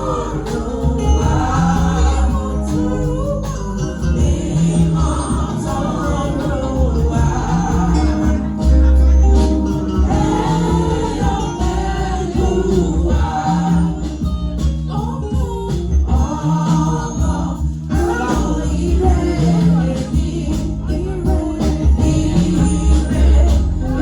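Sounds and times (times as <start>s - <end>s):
choir singing gospel: 0.0s - 24.0s
live accompaniment with bass: 0.0s - 24.0s.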